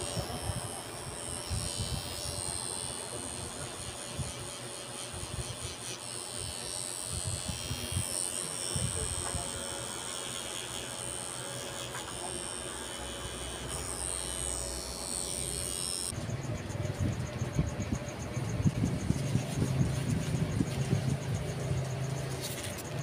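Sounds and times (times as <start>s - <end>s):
tattoo machine humming and whining: 0.0s - 23.0s.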